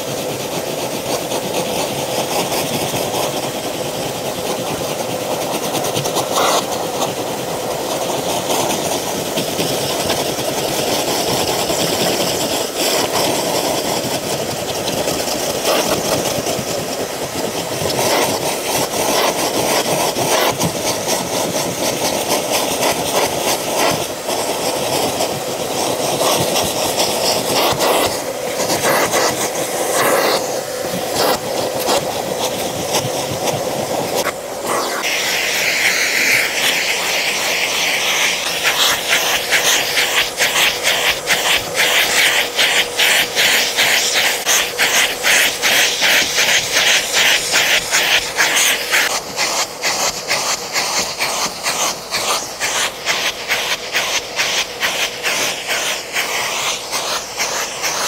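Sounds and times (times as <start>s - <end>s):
nozzle strokes over carpet: 0.0s - 58.0s
vacuum cleaner running: 0.0s - 58.0s.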